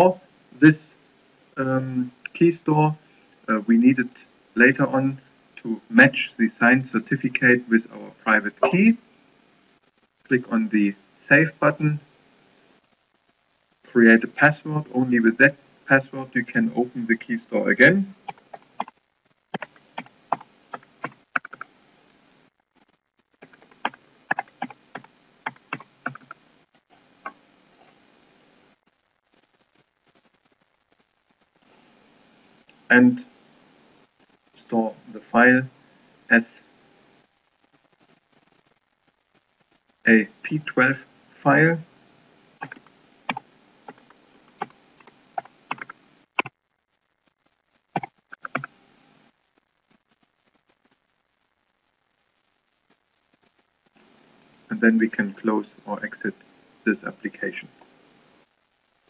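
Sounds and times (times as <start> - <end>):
faint hiss: 0.0 - 59.0.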